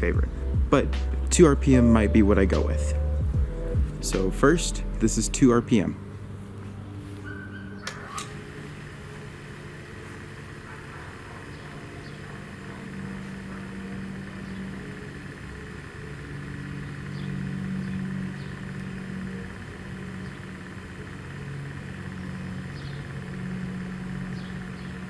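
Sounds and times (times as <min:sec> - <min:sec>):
siren rotator mechanical hum: 0:00.0 - 0:25.0.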